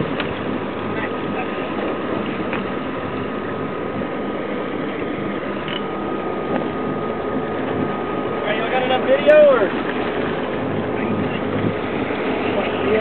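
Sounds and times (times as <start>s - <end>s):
boat engines running: 0.0s - 13.0s
faint steady whine: 0.0s - 13.0s
water washing along hull: 0.0s - 13.0s.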